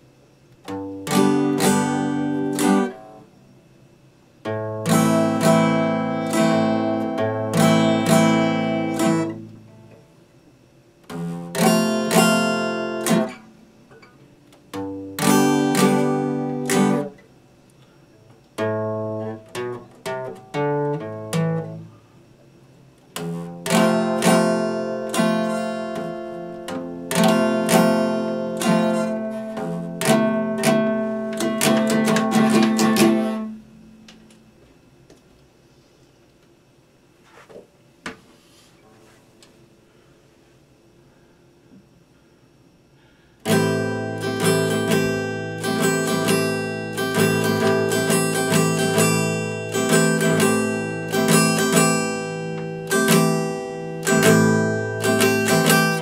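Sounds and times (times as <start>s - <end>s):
acoustic guitar strummed: 0.0s - 3.6s, 4.4s - 10.1s, 11.0s - 22.3s, 23.1s - 34.4s, 43.0s - 56.0s.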